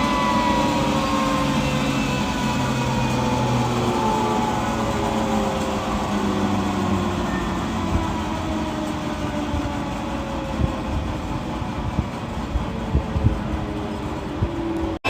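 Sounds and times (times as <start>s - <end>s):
jet engine whining rumble: 0.0s - 15.0s.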